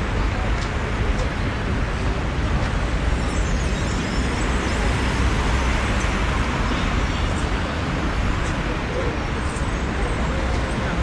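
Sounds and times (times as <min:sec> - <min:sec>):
rumble of passing cars: 0:00.0 - 0:11.0.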